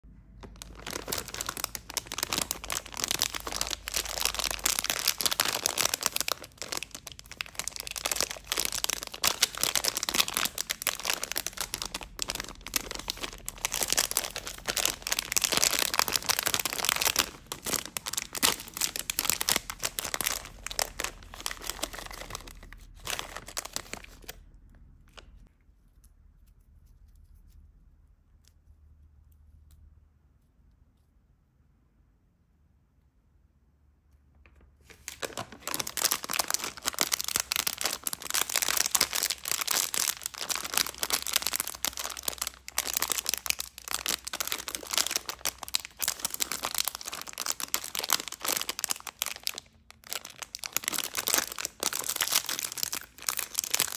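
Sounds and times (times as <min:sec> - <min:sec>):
plastic bag crinkling and tearing: 0:00.3 - 0:24.4, 0:34.8 - 0:53.9.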